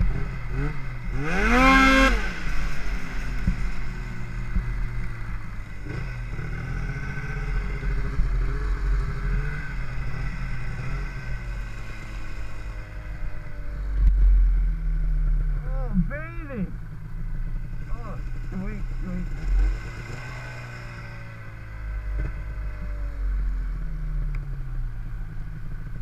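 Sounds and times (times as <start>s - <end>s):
snowmobile engine running: 0.0s - 24.3s.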